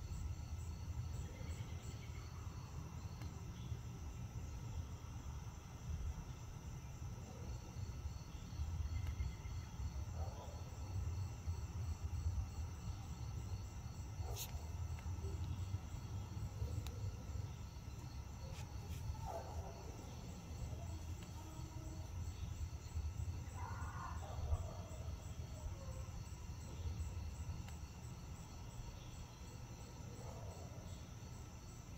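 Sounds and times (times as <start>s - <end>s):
crickets chirping: 0.0s - 31.9s.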